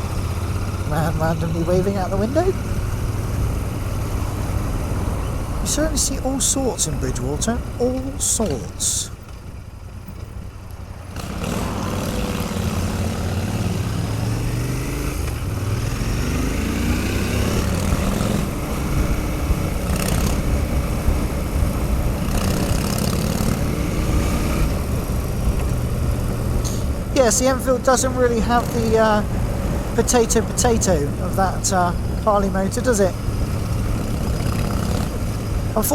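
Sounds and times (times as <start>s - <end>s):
motorcycle engines accelerating: 0.0s - 35.9s.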